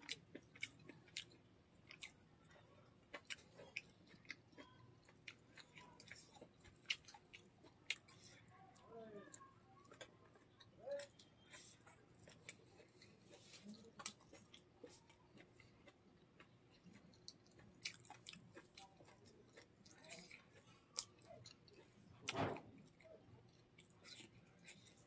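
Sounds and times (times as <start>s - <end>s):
soft chewing: 0.0s - 25.0s.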